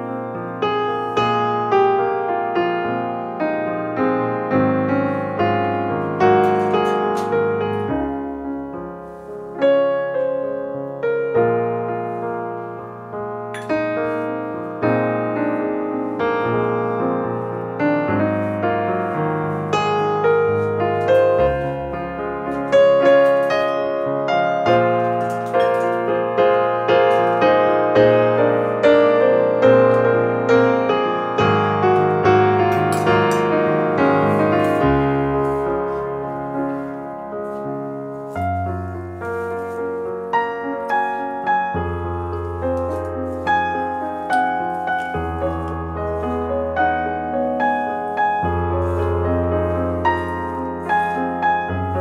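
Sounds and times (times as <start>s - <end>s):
solo piano music: 0.0s - 52.0s.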